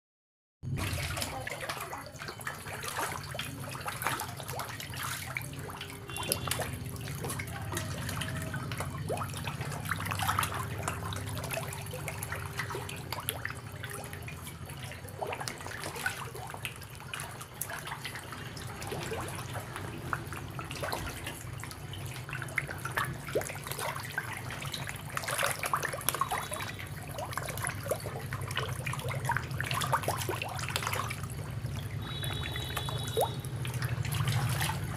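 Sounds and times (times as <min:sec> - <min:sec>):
fish splashing in shallow water: 0:00.7 - 0:34.9.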